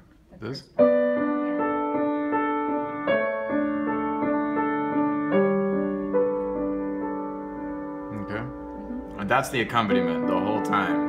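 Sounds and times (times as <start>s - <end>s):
upright piano broken chords: 0.8s - 11.0s.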